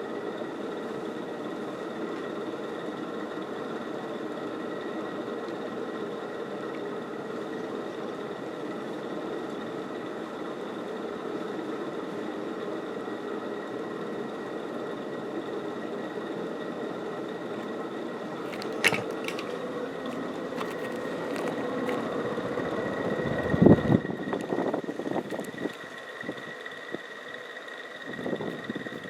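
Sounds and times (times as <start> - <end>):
ceiling fan running: 0.0 - 29.0
faint bearing whine: 0.0 - 29.0.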